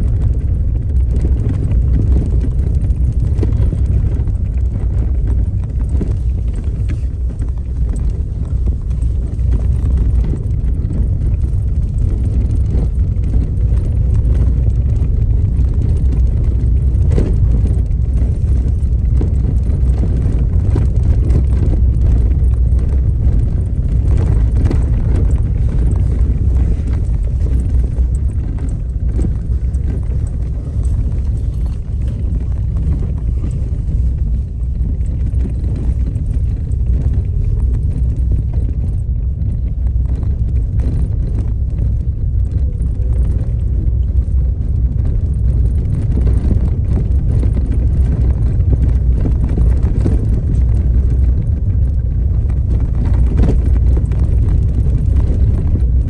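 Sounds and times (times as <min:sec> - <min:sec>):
stones knocking and ticking: 0:00.0 - 0:56.0
vehicle rumbling on gravel road: 0:00.0 - 0:56.0.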